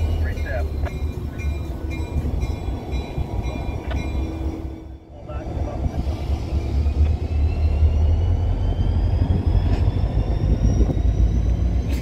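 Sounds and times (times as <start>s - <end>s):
freight train diesel rumble: 0.0s - 12.0s.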